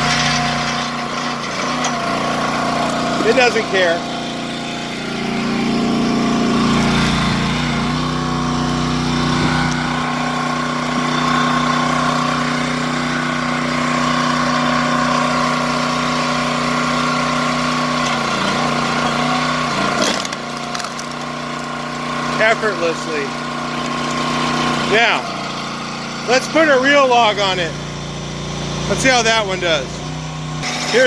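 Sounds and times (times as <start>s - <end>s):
wood splitting clatter: 0.0s - 28.0s, 29.9s - 31.0s
log splitter engine running: 0.0s - 31.0s.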